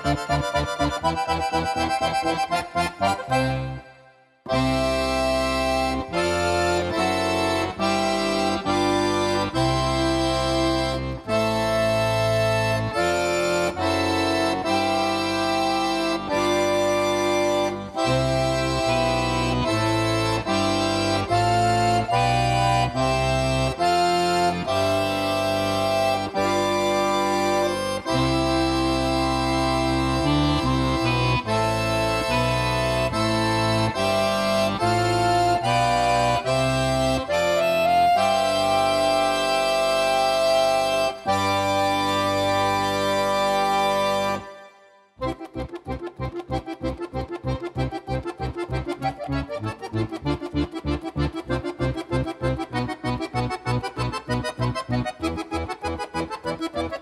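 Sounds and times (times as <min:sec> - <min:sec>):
accordions playing chords: 0:00.0 - 0:57.0.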